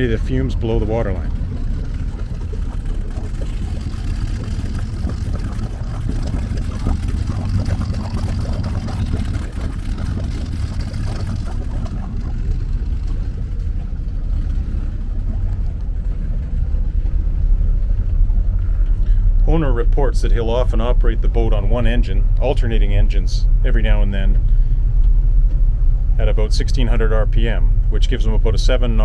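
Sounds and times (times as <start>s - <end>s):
boat engines low rumble: 0.0s - 29.0s.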